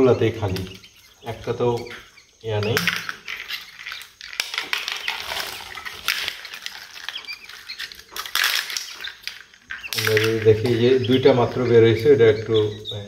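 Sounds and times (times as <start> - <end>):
chicks peeping: 0.0 - 13.0
eggshells crackling and rustling: 0.0 - 13.0.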